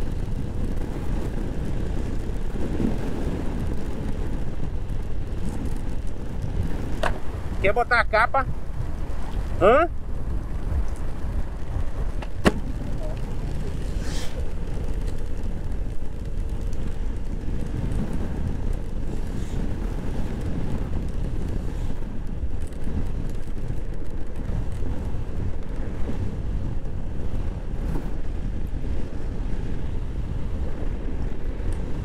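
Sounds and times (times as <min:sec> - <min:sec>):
scooter running: 0:00.0 - 0:32.0
wind buffeting microphone: 0:00.0 - 0:32.0.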